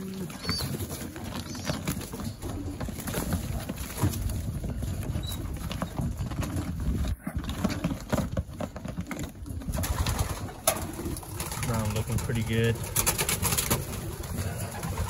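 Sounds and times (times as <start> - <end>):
pigeons wing flapping and scrabbling: 0.0 - 15.0.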